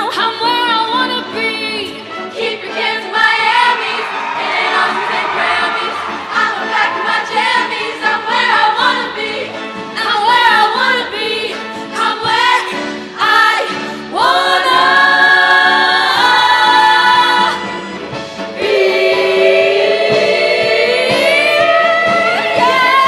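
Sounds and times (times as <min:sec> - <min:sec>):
choir singing in harmony: 0:00.0 - 0:23.0
musical accompaniment: 0:00.0 - 0:23.0.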